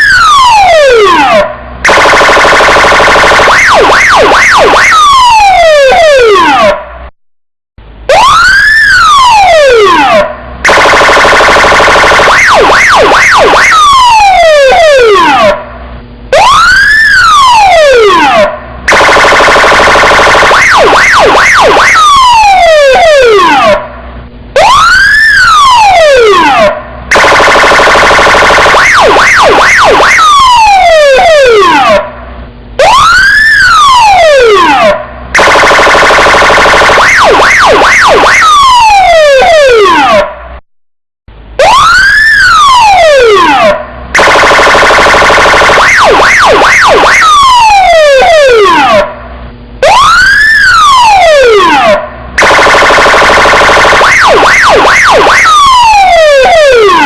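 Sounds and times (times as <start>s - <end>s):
police siren wailing: 0.0s - 7.0s, 8.1s - 40.6s, 41.5s - 57.0s.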